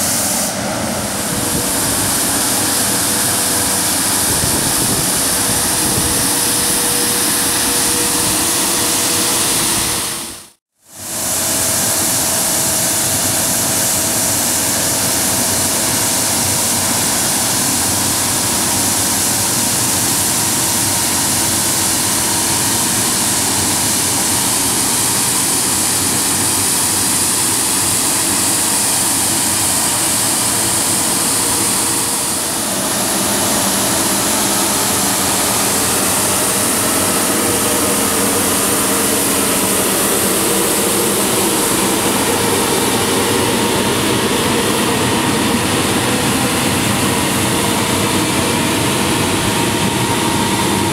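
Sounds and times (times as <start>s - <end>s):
street sweeper engine and suction fan: 0.0s - 50.9s.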